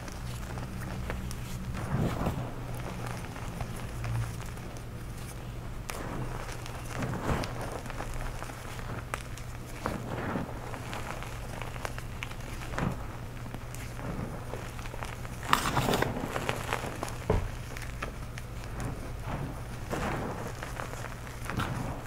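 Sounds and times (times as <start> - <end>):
hands crunching dry powder: 0.0 - 22.0
steady low hum: 0.0 - 22.0.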